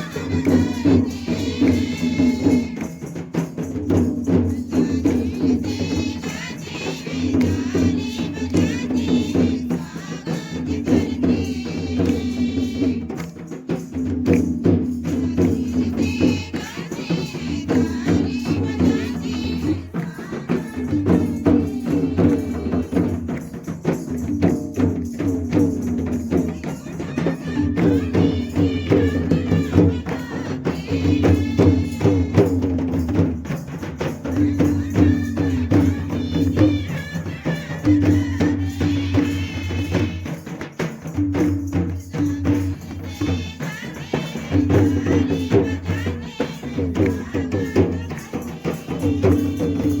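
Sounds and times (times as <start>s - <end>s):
drum beat: 0.0s - 50.0s
tambourine: 0.0s - 50.0s
voices singing: 0.0s - 50.0s.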